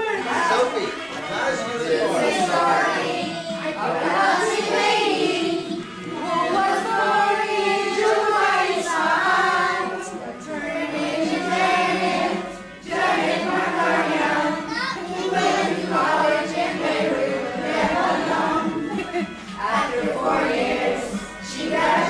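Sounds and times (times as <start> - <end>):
group singing in unison: 0.2 - 22.0.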